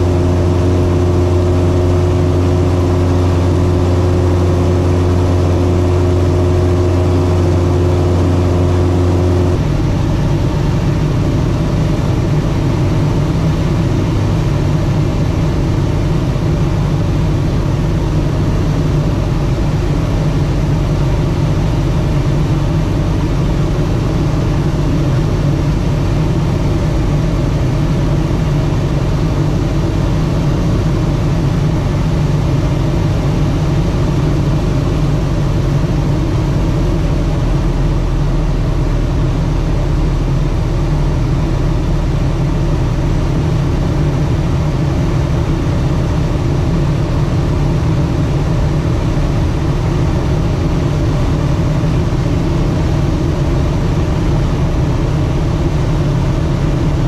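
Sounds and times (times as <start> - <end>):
aircraft engine drone: 0.0 - 57.0.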